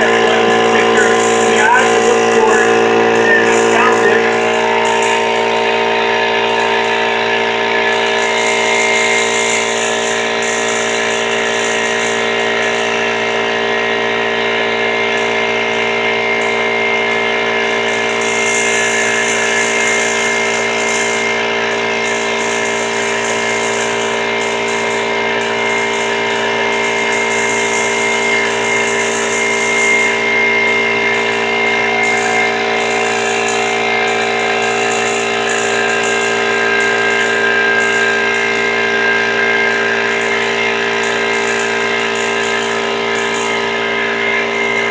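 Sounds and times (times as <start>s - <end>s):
air compressor running: 0.0s - 44.9s.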